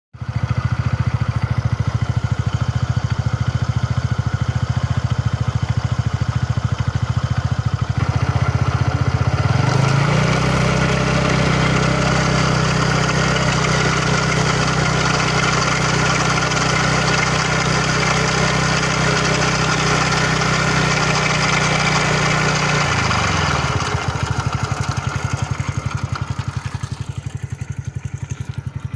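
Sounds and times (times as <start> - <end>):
scooter engine idling and revving: 0.1 - 28.9.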